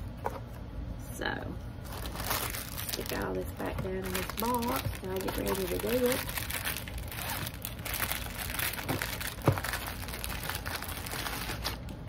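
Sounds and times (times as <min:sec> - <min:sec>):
plastic packaging crinkling: 0:01.8 - 0:12.0.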